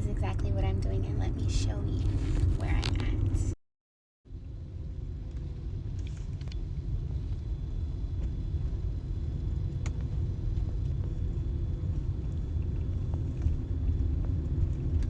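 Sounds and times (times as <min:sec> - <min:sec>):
car road and engine rumble: 0:00.0 - 0:03.6, 0:04.3 - 0:15.0.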